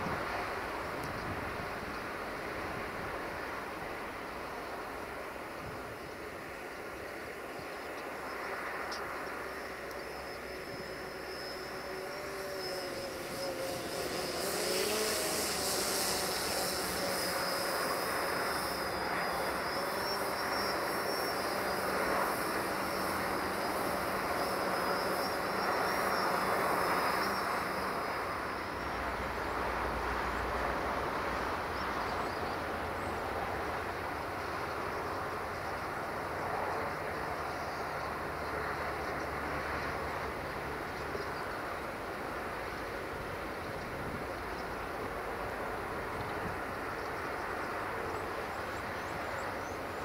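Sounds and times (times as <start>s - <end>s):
distant train passing: 0.0s - 50.0s
high wavering whine: 0.0s - 50.0s.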